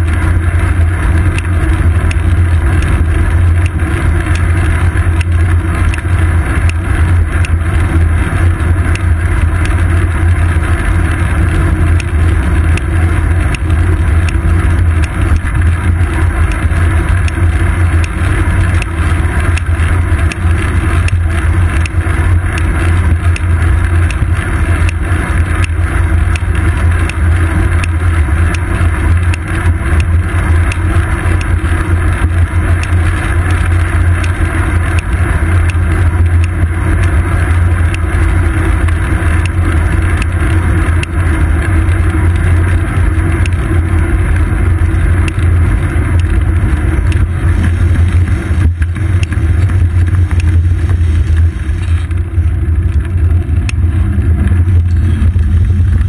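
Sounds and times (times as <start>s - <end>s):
road noise: 0.0s - 56.0s
wind rumble on microphone: 0.0s - 56.0s
small ticks: 1.3s - 9.9s, 10.5s - 52.2s.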